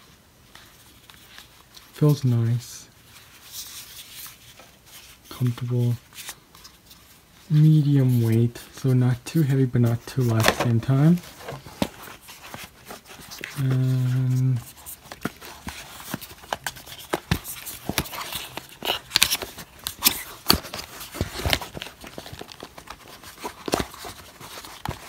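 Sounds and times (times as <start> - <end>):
clicks and rustling of headphones: 3.3 - 25.0.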